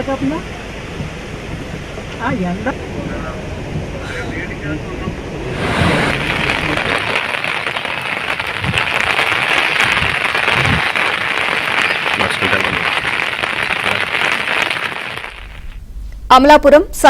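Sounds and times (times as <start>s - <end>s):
heavy rain hiss: 0.0s - 17.0s
strong gusting wind: 0.0s - 17.0s.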